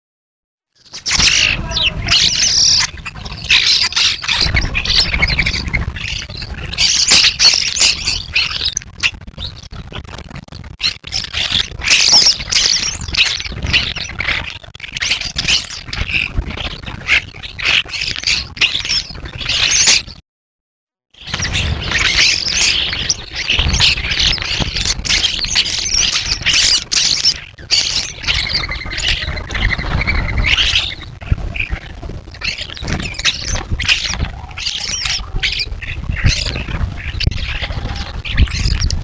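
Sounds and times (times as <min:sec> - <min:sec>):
flock of small birds chirping: 0:00.8 - 0:20.2, 0:21.2 - 0:39.0.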